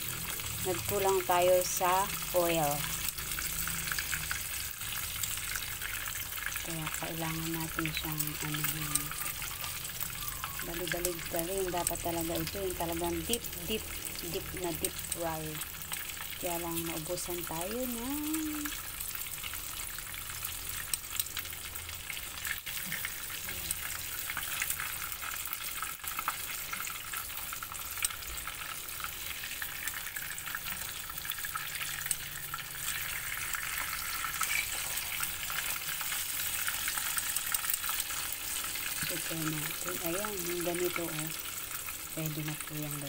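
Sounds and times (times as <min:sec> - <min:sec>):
fish frying in oil: 0:00.0 - 0:43.0.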